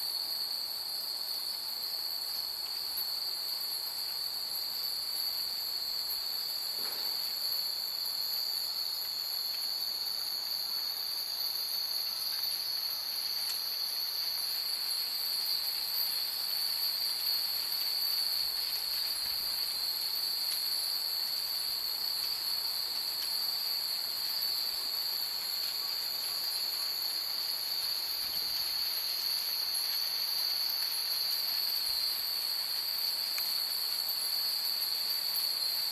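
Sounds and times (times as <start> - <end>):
night insects chorus: 0.0 - 35.9.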